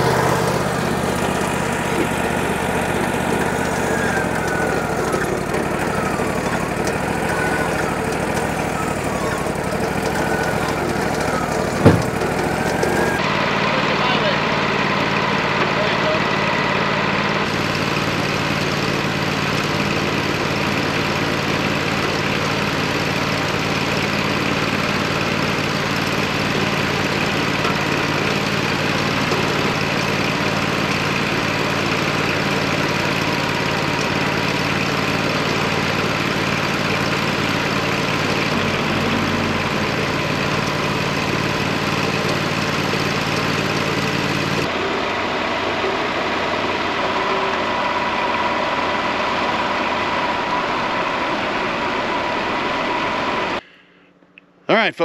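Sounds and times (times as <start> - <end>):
tractor engine running: 0.0 - 54.8.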